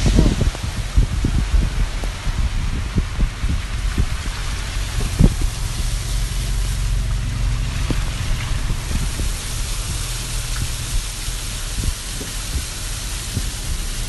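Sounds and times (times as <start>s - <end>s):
engine and tyre hum: 0.0s - 14.0s
rain on a car: 0.0s - 14.0s
sharp raindrop taps: 0.0s - 14.0s.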